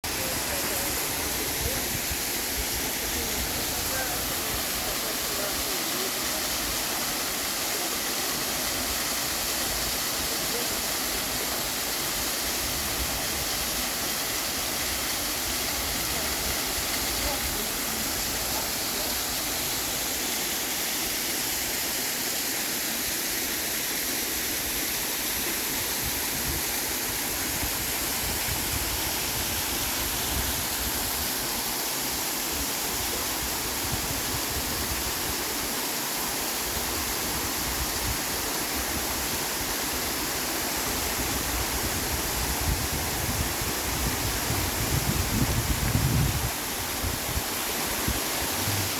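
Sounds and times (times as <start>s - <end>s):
waterfall hiss: 0.0s - 48.9s.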